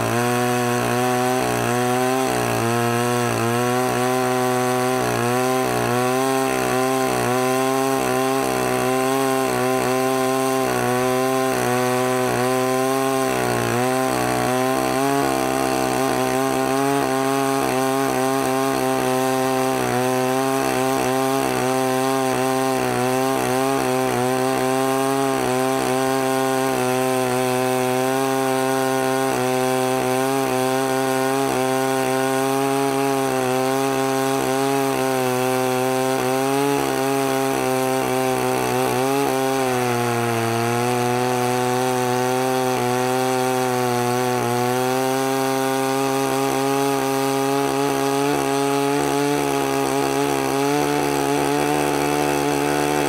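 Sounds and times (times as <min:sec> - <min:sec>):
chainsaw milling a log: 0:00.0 - 0:53.0.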